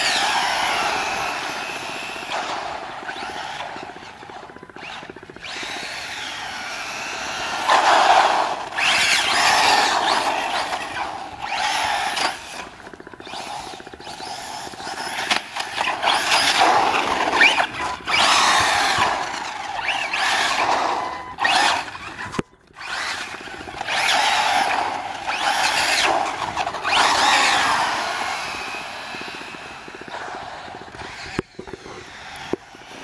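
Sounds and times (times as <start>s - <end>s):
electric motor whining: 0.0s - 33.0s.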